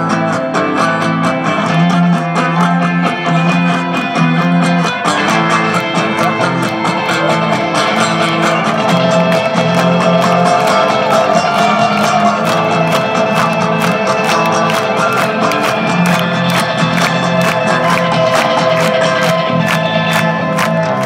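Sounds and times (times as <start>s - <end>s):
bass guitar: 0.0s - 21.0s
electric guitar: 0.0s - 21.0s.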